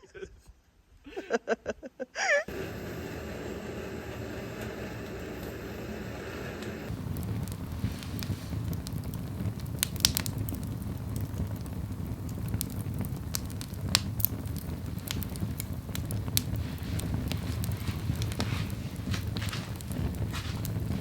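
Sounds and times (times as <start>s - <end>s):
firewood crackling and popping: 2.5s - 21.0s.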